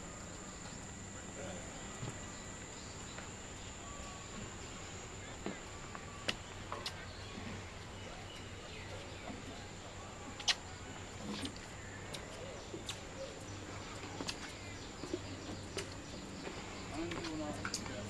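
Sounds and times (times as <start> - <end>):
faint distant voices: 0.0 - 18.0.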